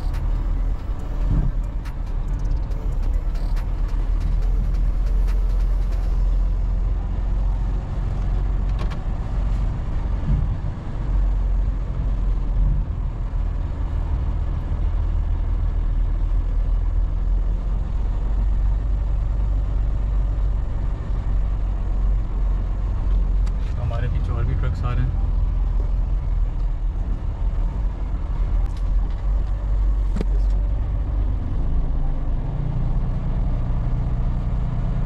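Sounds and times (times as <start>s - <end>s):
truck diesel engine droning: 0.0s - 35.0s.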